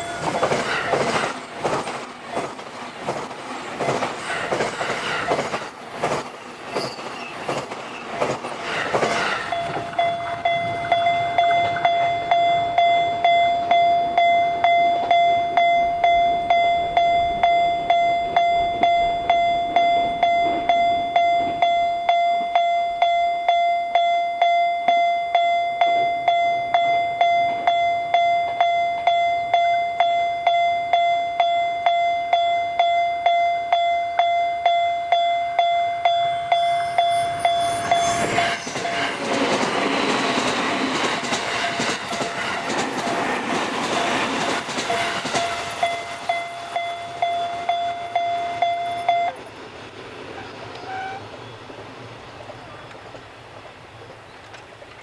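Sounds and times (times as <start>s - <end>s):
level crossing alarm ringing: 0.0s - 8.3s, 9.1s - 49.4s
train wheels rumbling and squealing: 0.0s - 23.2s, 33.8s - 55.0s.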